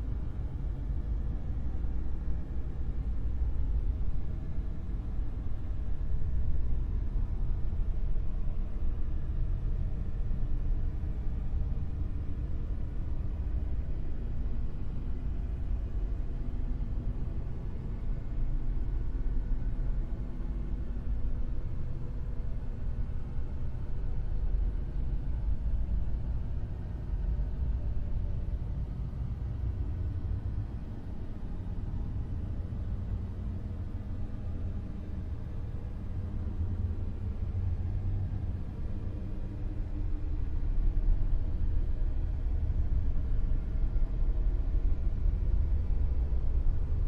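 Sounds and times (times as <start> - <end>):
deep rumbling noise drone: 0.0 - 47.0.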